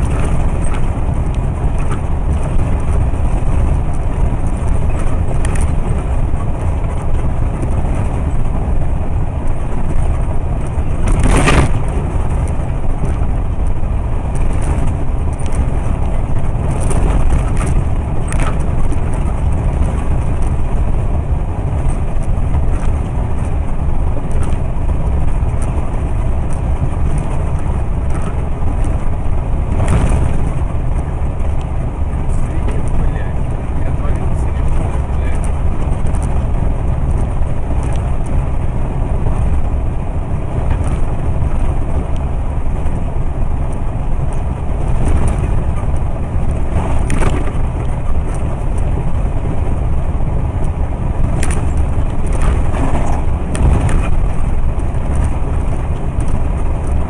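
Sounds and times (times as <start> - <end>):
road and engine noise in cabin: 0.0 - 57.0.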